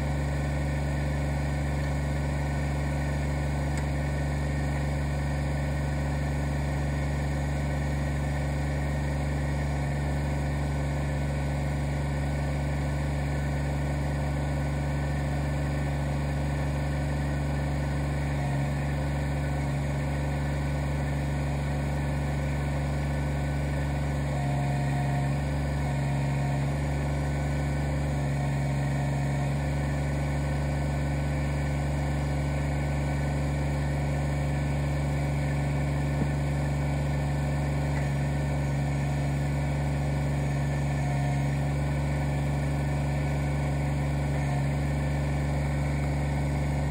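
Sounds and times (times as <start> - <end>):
tractor diesel engine idling: 0.0 - 46.9.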